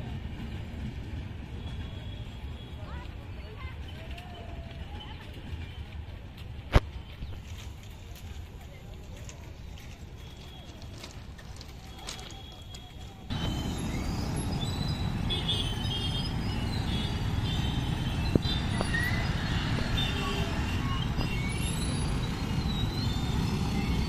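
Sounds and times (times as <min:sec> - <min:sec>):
motorcycle and scooter engines: 0:00.0 - 0:24.0
voices: 0:01.8 - 0:06.5, 0:07.8 - 0:24.0.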